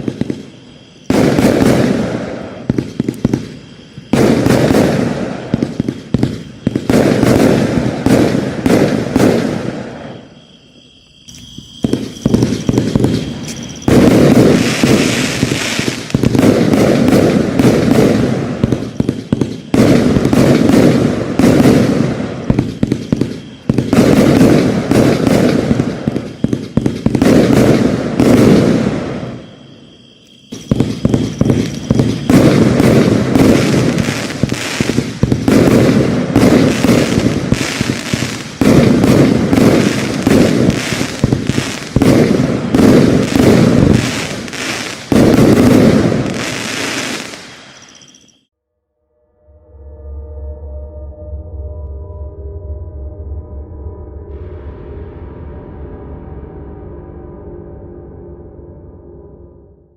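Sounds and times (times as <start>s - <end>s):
firework bangs and crackle: 0.0s - 48.5s.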